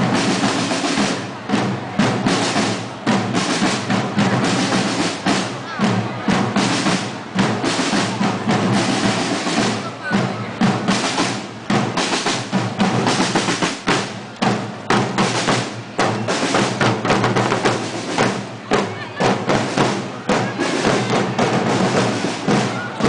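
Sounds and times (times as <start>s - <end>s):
marching drums: 0.0s - 23.0s.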